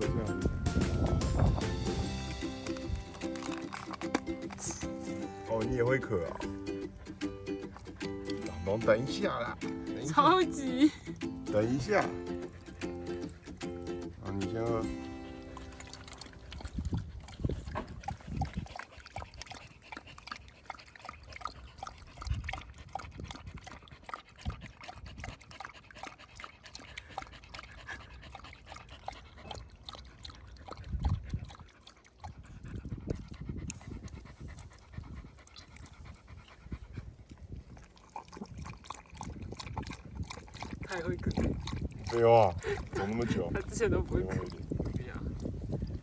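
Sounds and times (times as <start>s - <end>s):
dog lapping water: 0.0s - 46.0s.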